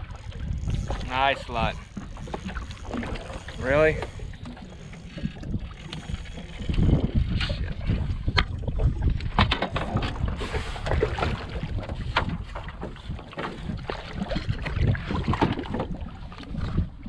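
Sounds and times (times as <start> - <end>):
short splashes and knocks: 0.0 - 16.8
water lapping against boat hull: 0.0 - 17.0
wind buffeting microphone: 0.0 - 17.0.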